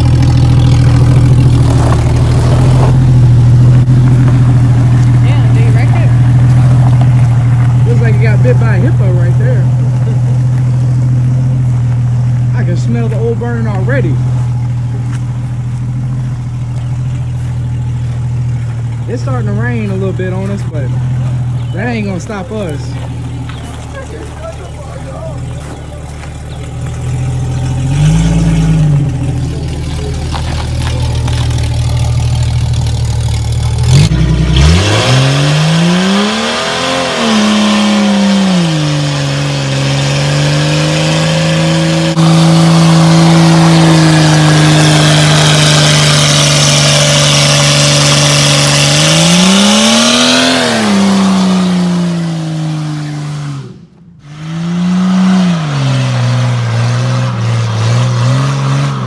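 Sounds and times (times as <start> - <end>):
engine revving: 0.0 - 59.0
tyre squealing: 0.0 - 59.0.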